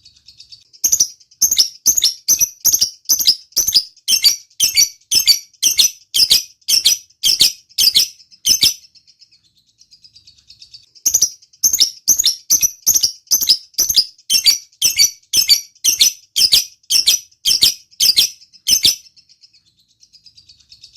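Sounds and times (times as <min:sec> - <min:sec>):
lovebird sharp chirps: 0:00.0 - 0:20.9
soft rapid bird chatter: 0:00.0 - 0:20.9.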